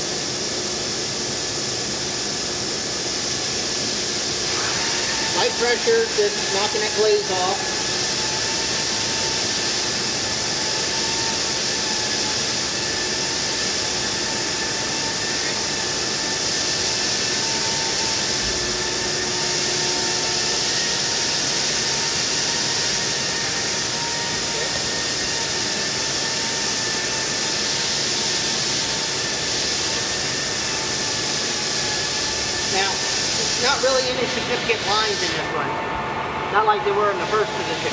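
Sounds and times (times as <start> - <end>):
dressing stick grinding hiss: 0.0 - 35.7, 36.6 - 37.9
router spindle whine: 4.4 - 37.9.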